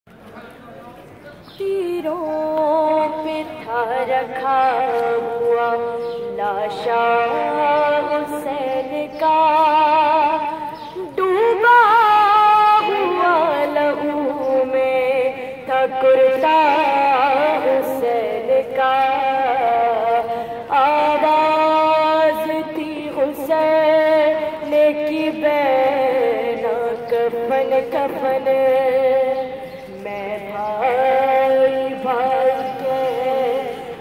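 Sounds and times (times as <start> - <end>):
woman singing a lament: 1.6 - 34.0.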